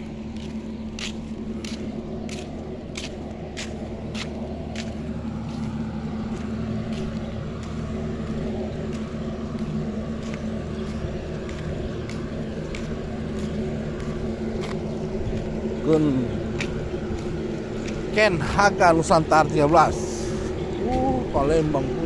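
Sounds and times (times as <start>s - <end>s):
low engine drone: 0.0s - 22.0s
footsteps on concrete: 0.1s - 18.2s.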